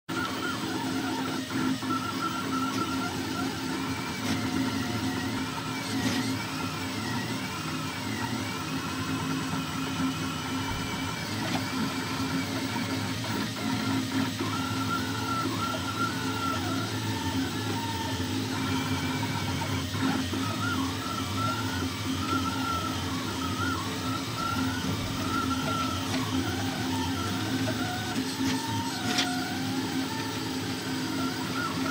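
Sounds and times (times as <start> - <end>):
stepper motors whining: 0.1 - 31.9.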